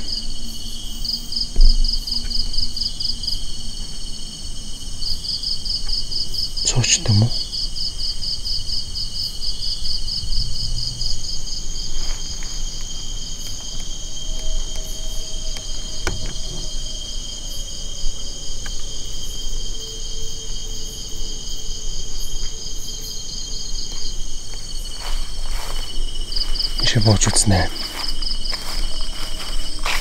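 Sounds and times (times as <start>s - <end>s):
insects buzzing: 0.0s - 30.0s
pulsing insect trill: 0.0s - 30.0s.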